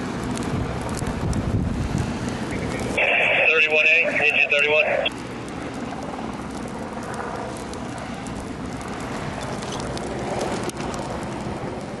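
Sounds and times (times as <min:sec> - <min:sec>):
brush fire crackling and popping: 0:00.0 - 0:12.0
fire rushing noise: 0:00.0 - 0:12.0.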